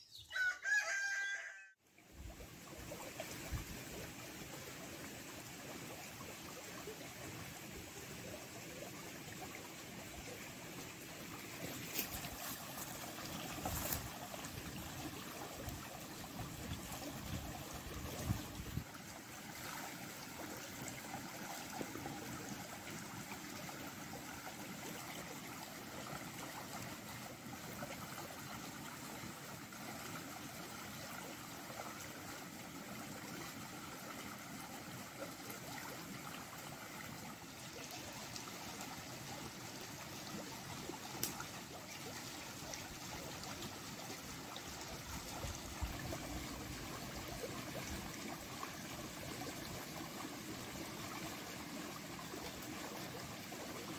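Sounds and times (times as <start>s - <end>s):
stream flowing over stones: 1.9s - 53.9s.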